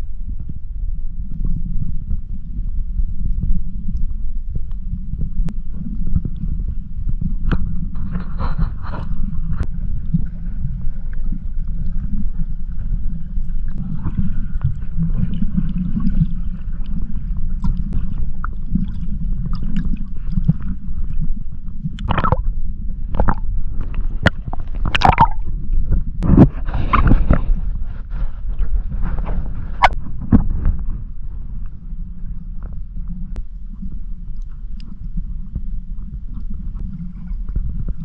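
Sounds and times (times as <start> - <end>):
muffled underwater water rumble: 0.0 - 38.0.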